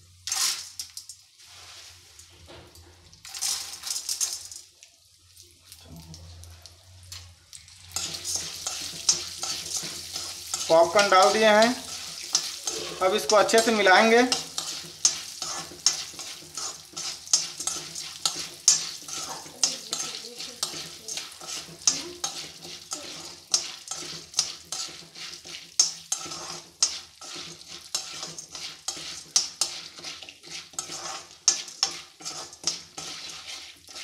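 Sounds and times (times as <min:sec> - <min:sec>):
light oil sizzle: 0:00.0 - 0:34.0
kernels rattling against pan: 0:03.2 - 0:04.7, 0:07.8 - 0:34.0.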